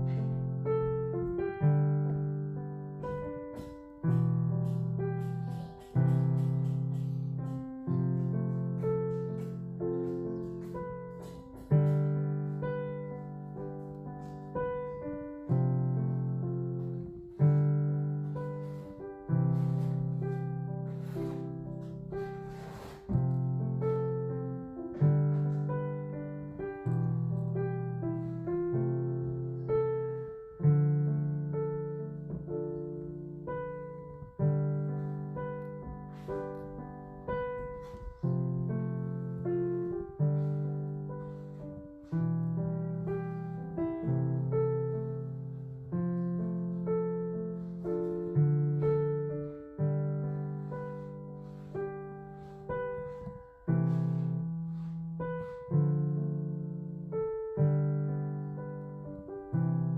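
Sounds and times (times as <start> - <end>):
slow piano chords: 0.0 - 59.9.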